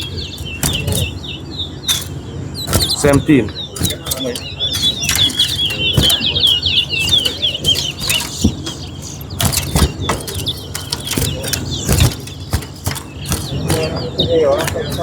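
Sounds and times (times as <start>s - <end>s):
sharp clicks: 0.0s - 1.2s, 1.9s - 15.0s.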